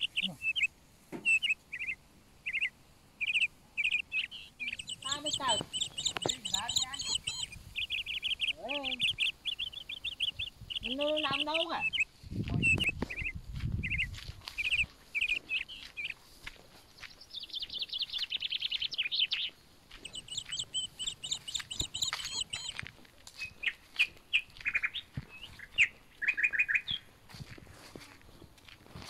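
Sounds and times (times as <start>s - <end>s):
bird trills: 0.0s - 16.2s, 17.1s - 27.1s
songbirds chirping: 0.0s - 29.0s.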